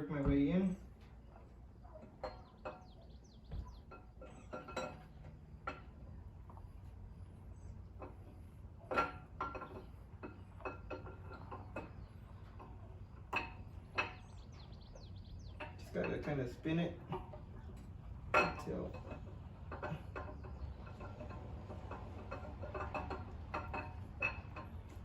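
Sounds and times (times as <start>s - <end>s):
camshaft clinking against bearings: 2.1s - 25.0s.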